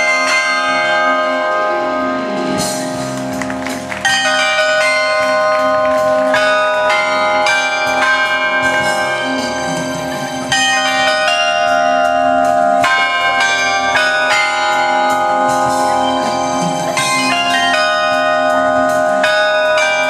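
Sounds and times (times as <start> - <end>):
tuned bells playing a melody: 0.0 - 20.0.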